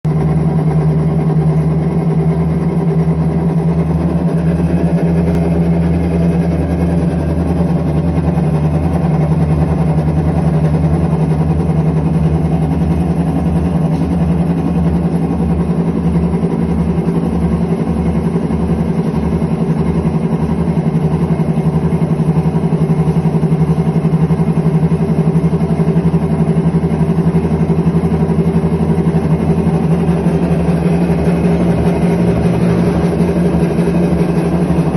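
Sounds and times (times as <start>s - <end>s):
fluttering low rumble: 0.1s - 34.9s
washing machine humming: 0.1s - 34.9s.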